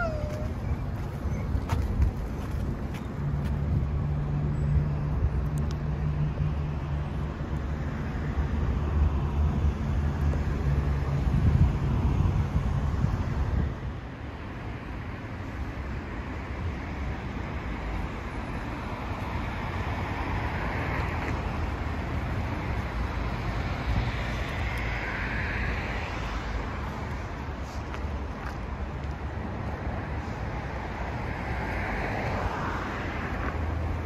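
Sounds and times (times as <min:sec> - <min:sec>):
cars passing: 0:00.0 - 0:34.0
low traffic rumble: 0:00.0 - 0:34.0.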